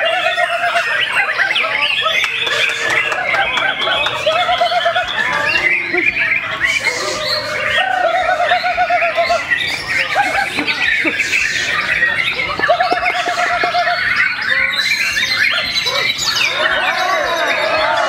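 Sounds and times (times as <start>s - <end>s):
bird singing varied song: 0.0s - 18.0s
other birdsong: 0.0s - 18.0s.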